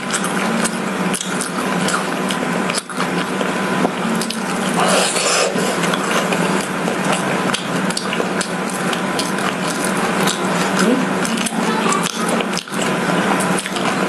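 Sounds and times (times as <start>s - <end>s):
close chewing with mouth clicks: 0.0s - 14.0s.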